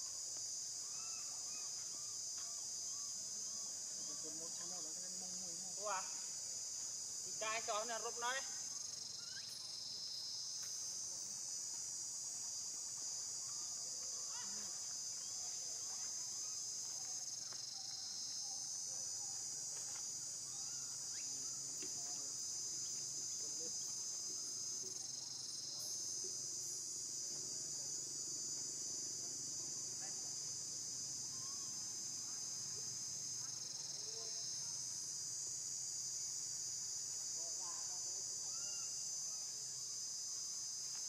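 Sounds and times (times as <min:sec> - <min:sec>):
insect chorus droning: 0:00.0 - 0:41.0.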